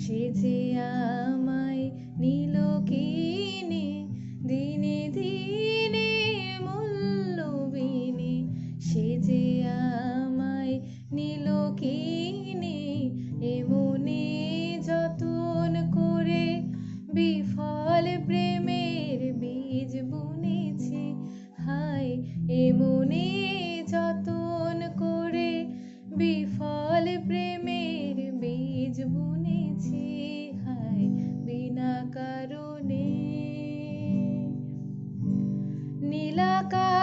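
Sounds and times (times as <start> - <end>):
woman singing slow melody: 0.0 - 35.0, 35.8 - 37.0
acoustic guitar chords: 0.0 - 37.0.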